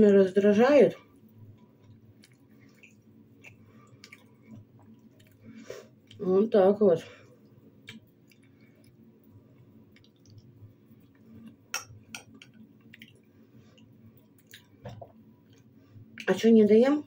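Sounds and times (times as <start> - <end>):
faint chewing: 1.0 - 6.3, 7.2 - 16.4.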